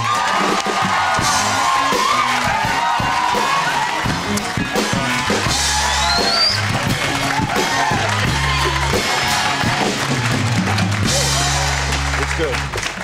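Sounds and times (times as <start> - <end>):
drums: 0.0 - 13.0
live band playing upbeat music: 0.0 - 13.0
steady bass line: 0.0 - 13.0.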